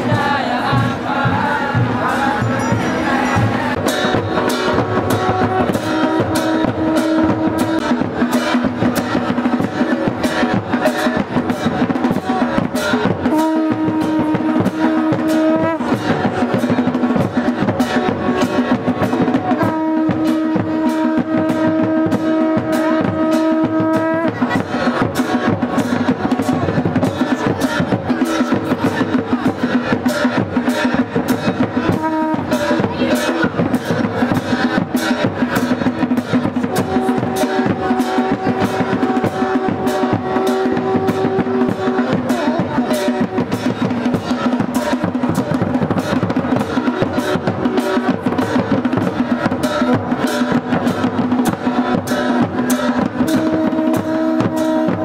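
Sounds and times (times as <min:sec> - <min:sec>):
drums beating a fast rhythm: 0:00.0 - 0:55.0.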